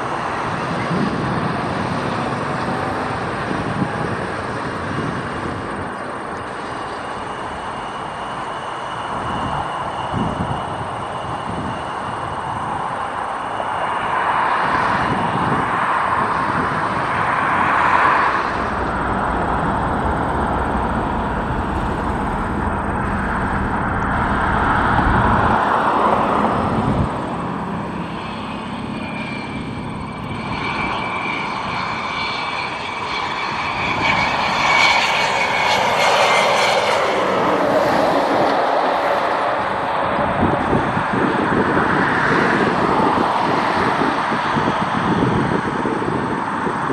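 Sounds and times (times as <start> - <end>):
high jet engine whine: 0.0 - 46.9
jet engines rushing: 0.0 - 46.9.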